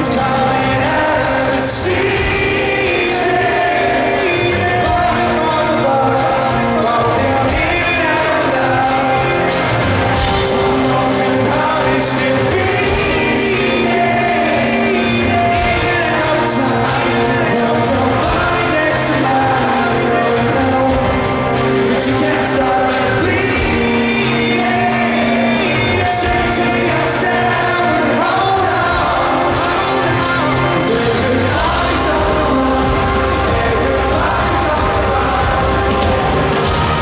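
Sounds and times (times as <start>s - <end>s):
live rock band with vocals: 0.0s - 37.0s.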